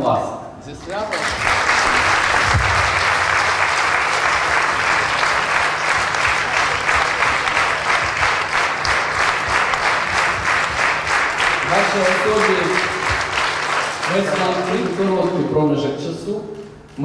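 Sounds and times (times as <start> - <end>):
audience applause: 0.9 - 15.6.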